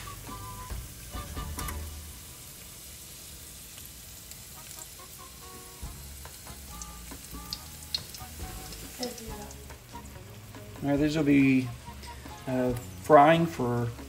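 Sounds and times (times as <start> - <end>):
food sizzling in hot oil: 0.0 - 14.0
oil popping and crackling: 0.0 - 14.0.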